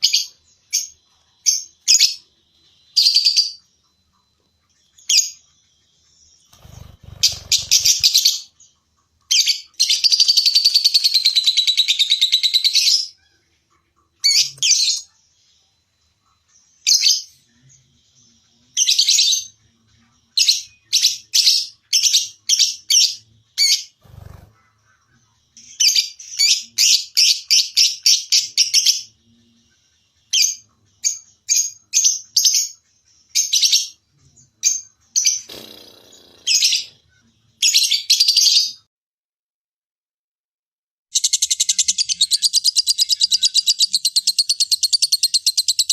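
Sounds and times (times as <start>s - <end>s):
bird chirping and trilling: 0.0s - 19.6s, 20.4s - 38.9s, 41.1s - 45.9s.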